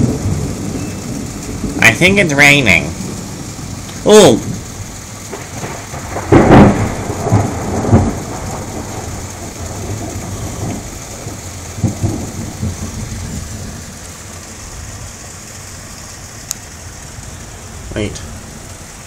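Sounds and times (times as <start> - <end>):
thunder clap and rumbles: 0.0 - 15.4
steady rain: 0.0 - 19.0.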